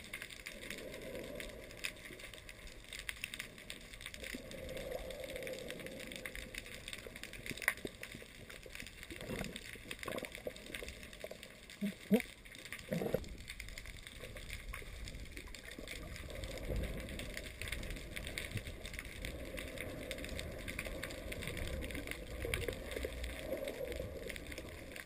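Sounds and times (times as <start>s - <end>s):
underwater water rumble: 0.0s - 25.0s.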